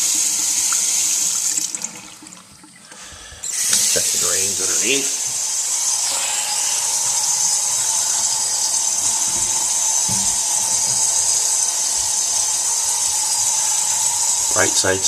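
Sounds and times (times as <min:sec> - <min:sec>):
faucet running into sink: 0:00.0 - 0:15.0.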